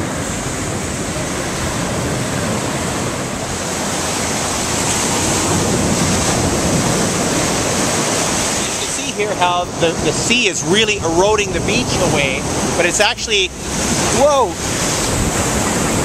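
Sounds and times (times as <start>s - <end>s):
surf breaking on a beach: 0.0s - 16.0s.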